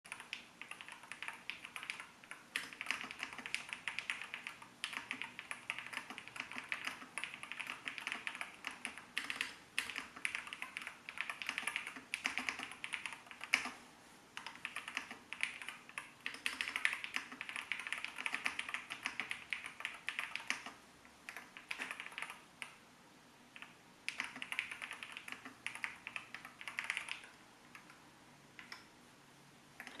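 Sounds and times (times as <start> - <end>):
keyboard typing clacks: 0.1 - 13.8, 14.4 - 22.8, 23.5 - 28.0, 28.6 - 28.9, 29.8 - 30.0.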